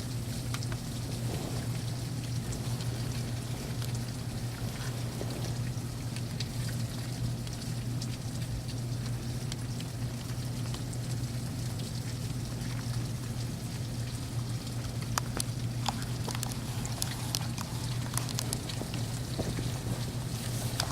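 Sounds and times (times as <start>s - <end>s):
rain pouring down: 0.0s - 20.9s
steady low hum: 0.0s - 20.9s.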